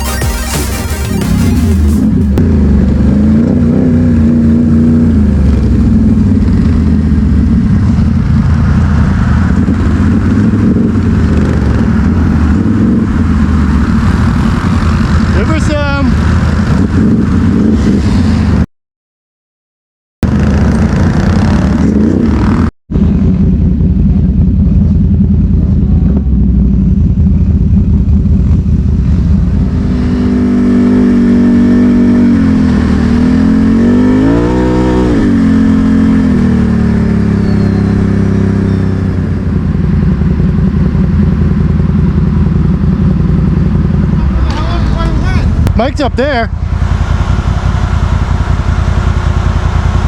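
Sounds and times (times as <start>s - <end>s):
atv engine running: 1.6s - 17.8s, 20.2s - 50.0s.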